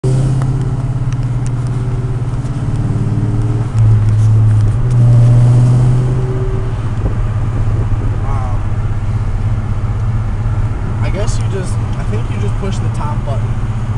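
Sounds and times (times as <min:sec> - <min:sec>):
car engine deep exhaust note: 0:00.0 - 0:13.9.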